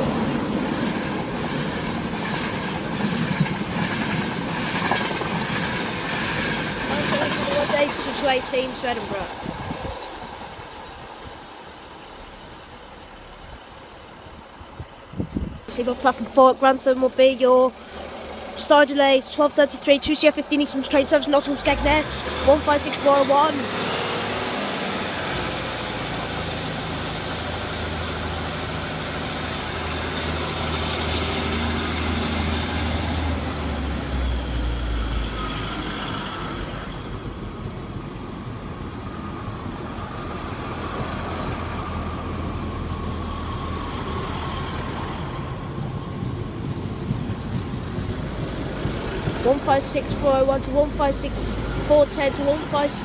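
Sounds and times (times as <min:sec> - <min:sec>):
diesel train engines humming: 0:00.0 - 0:53.0
train wheels on rails: 0:00.0 - 0:53.0.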